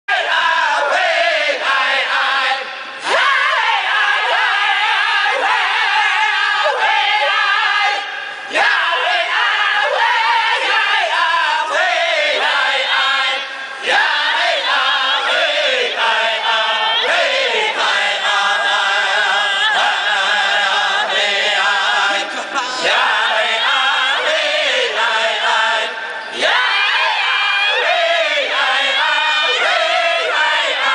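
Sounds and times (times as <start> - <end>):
several voices chanting together: 0.1 - 30.9.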